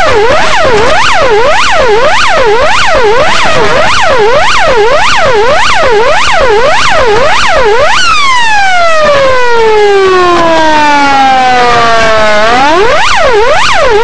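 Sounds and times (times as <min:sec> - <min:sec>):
electronic siren: 0:00.0 - 0:14.0.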